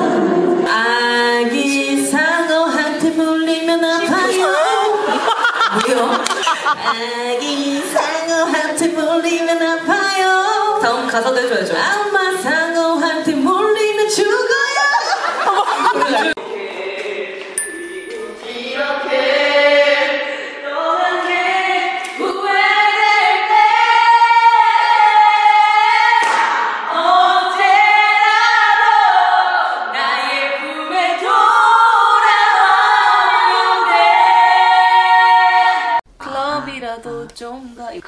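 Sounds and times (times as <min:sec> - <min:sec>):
women singing a cappella: 0:00.0 - 0:38.0.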